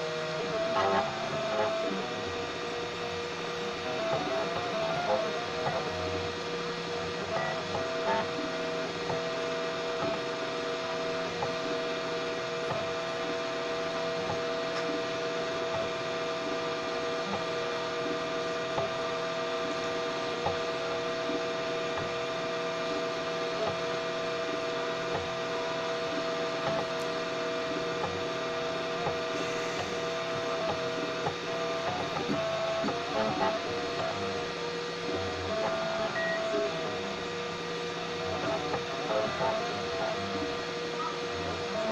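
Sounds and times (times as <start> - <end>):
stepper motors whining: 0.0 - 41.9.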